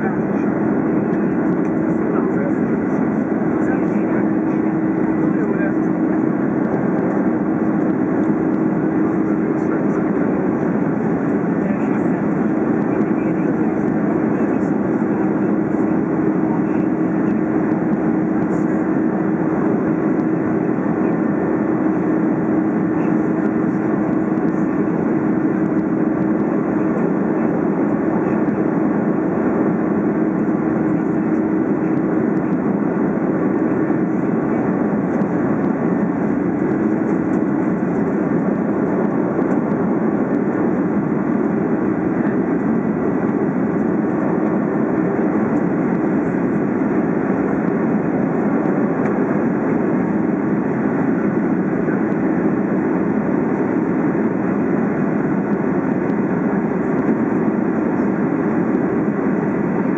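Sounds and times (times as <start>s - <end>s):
jet engine noise in cabin: 0.0s - 59.9s
steady droning hum: 0.0s - 59.9s.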